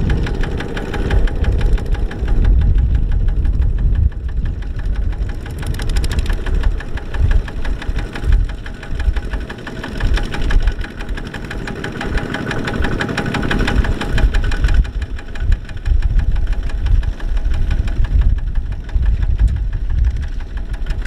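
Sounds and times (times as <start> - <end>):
diesel tractor engine knocking: 0.0 - 21.0.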